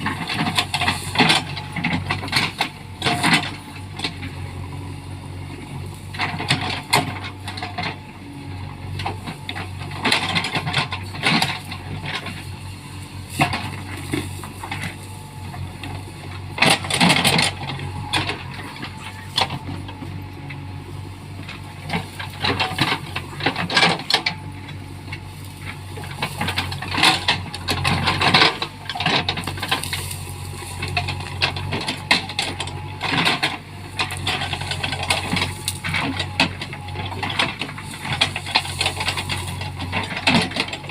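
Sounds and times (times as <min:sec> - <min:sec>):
diesel engine running: 0:00.0 - 0:40.9
trees and brush cracking: 0:00.0 - 0:40.9.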